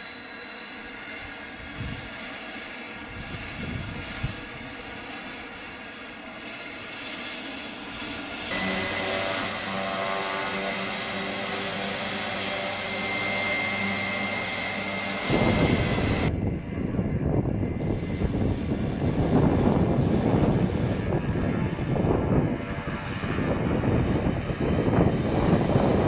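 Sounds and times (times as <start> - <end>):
propeller drone: 0.0 - 26.0
turboprop turbine whine: 0.0 - 26.0.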